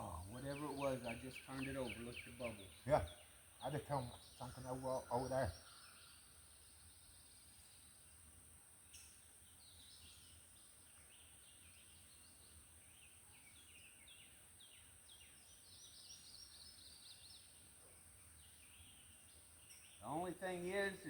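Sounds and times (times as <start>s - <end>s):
faint birdsong chirps: 0.0s - 21.0s
outdoor background noise: 0.0s - 21.0s.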